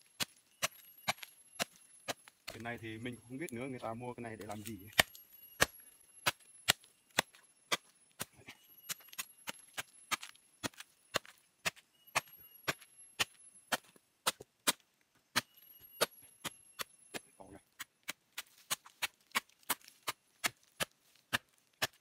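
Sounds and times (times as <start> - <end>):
machete chopping: 0.0 - 2.8, 4.4 - 22.0.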